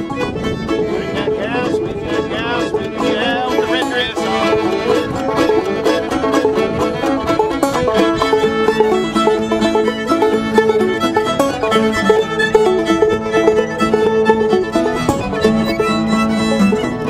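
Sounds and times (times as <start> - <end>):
string band music: 0.0 - 17.0.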